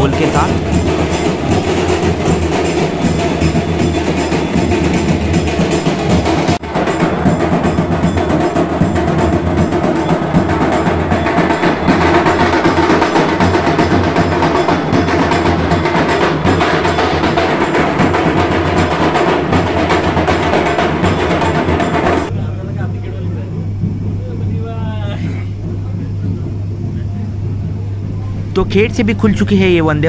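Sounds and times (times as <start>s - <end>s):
dhol drums beating: 0.0s - 30.0s.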